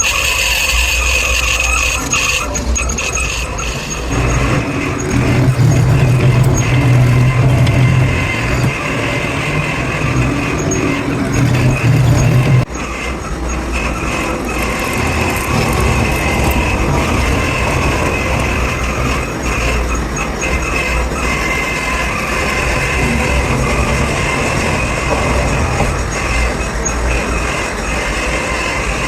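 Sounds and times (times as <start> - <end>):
heavy machinery din: 0.0 - 29.0
low machine hum: 2.8 - 27.4.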